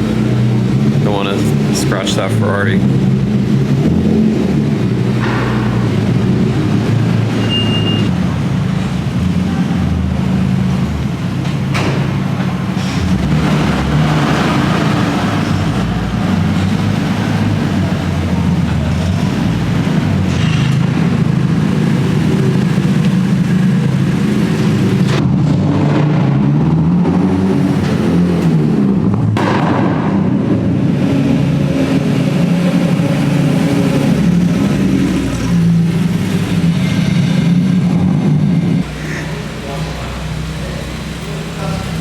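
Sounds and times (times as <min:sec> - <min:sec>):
car engine idling: 0:00.0 - 0:25.4, 0:26.4 - 0:42.0.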